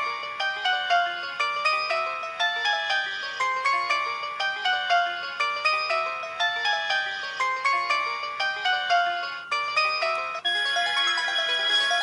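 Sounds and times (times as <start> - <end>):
synthesized ringtone melody: 0.0 - 12.0.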